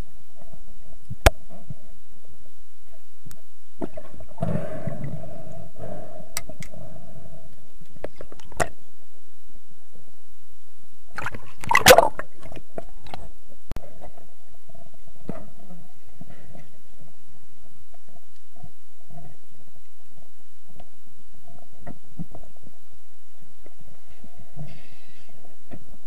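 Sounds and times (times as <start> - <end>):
muffled underwater rumble: 0.0 - 26.0.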